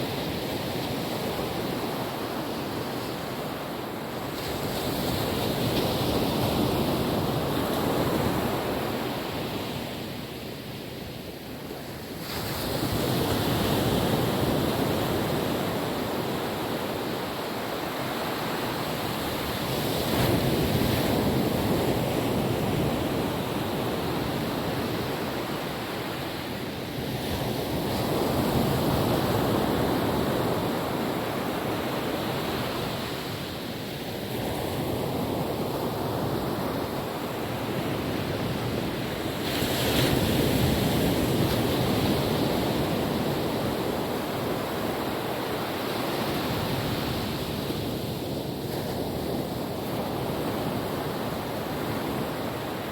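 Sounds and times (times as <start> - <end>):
ocean waves washing on beach: 0.0 - 52.9.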